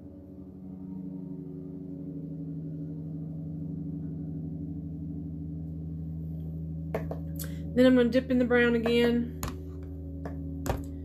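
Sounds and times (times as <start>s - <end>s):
low hum of held tones: 0.0s - 11.0s.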